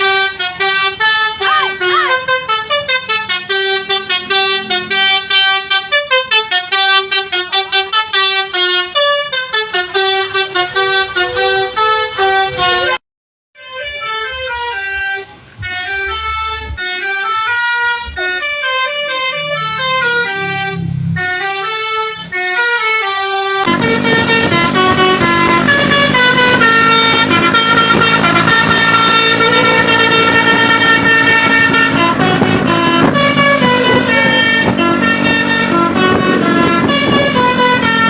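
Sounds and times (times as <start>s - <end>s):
low engine rumble: 0.0s - 8.7s, 13.7s - 38.0s
bus horn playing a melody: 0.0s - 13.0s, 13.6s - 38.0s.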